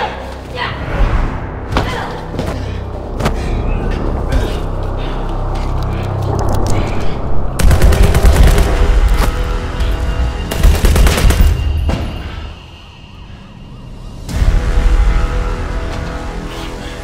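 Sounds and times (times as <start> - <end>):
film music: 0.0 - 17.0.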